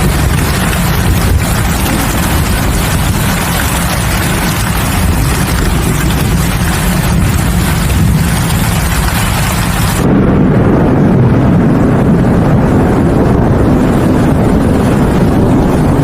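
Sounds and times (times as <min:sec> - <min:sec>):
deep low rumble: 0:00.0 - 0:16.0
heavy rain hissing: 0:00.0 - 0:16.0.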